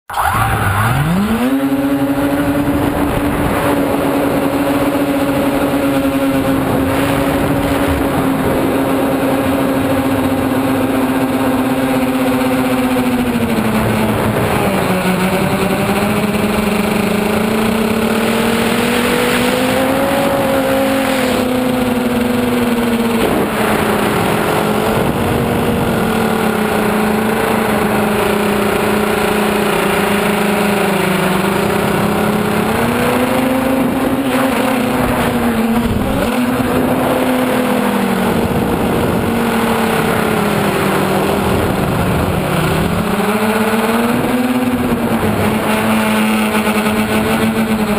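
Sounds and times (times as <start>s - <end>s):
drone motors buzzing whine: 0.1s - 45.6s.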